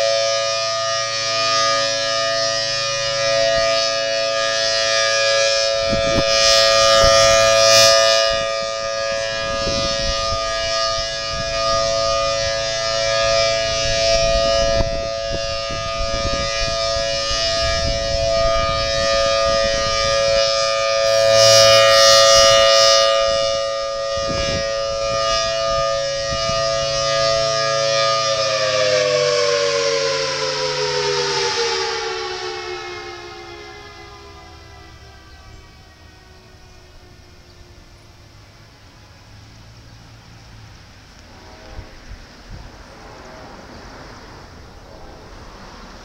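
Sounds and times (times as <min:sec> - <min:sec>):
rotating siren two-tone wail: 0:00.0 - 0:46.0.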